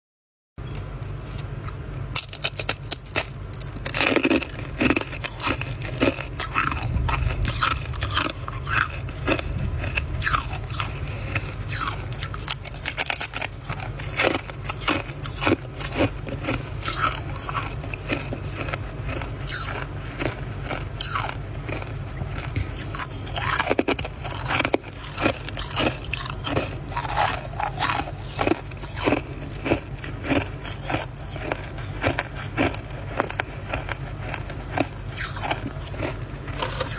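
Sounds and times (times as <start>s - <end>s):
frost being chewed crunching: 0.6s - 36.9s.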